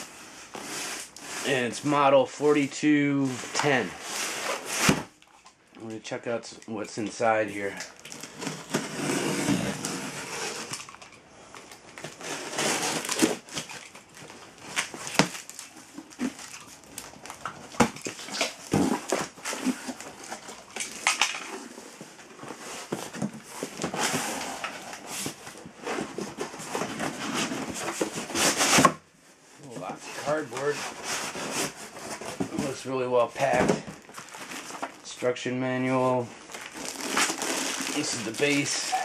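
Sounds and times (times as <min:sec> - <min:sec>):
cardboard rustling and scraping: 0:00.0 - 0:02.1, 0:03.2 - 0:05.2, 0:07.5 - 0:11.1, 0:11.9 - 0:39.0.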